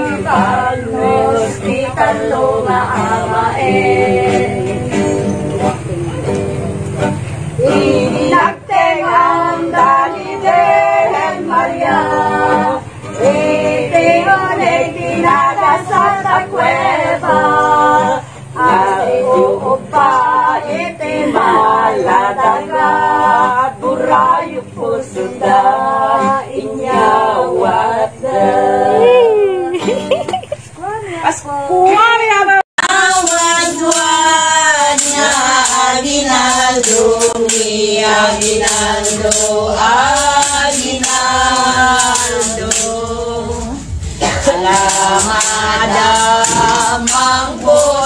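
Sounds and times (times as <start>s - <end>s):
women singing a carol together: 0.0s - 48.0s.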